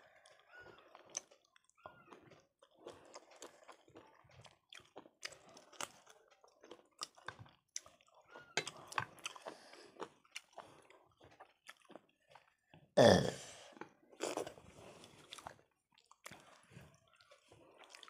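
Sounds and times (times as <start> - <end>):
mouths chewing and smacking food: 0.0 - 12.9, 13.6 - 18.0.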